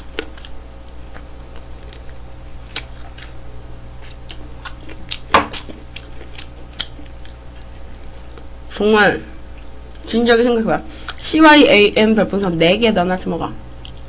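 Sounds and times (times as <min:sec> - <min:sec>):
close chewing with mouth clicks: 0:00.0 - 0:08.8, 0:09.4 - 0:10.1, 0:10.9 - 0:11.3, 0:11.9 - 0:14.0
steady low hum: 0:00.0 - 0:14.0.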